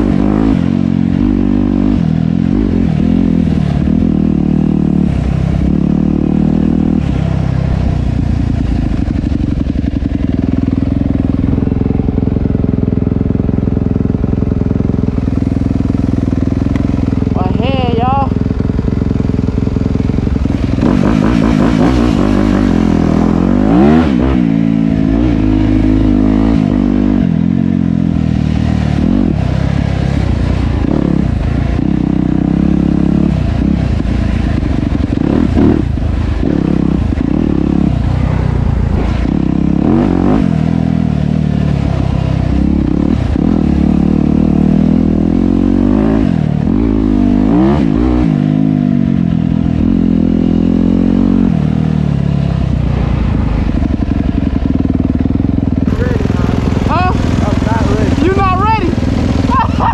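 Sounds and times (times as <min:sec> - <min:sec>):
dirt bike engine revving: 0:00.0 - 0:52.2, 0:53.0 - 0:59.9.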